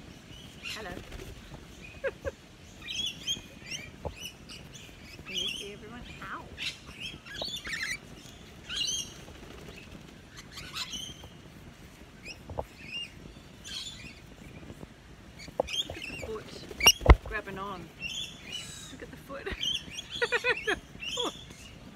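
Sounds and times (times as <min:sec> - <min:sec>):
lorikeets screeching and chirping: 0:00.1 - 0:21.9.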